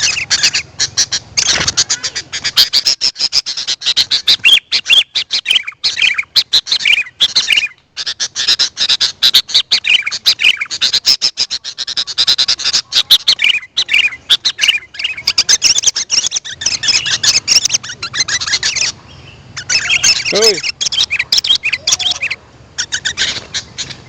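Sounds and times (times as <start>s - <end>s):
bird chirping and warbling: 0.0s - 24.0s.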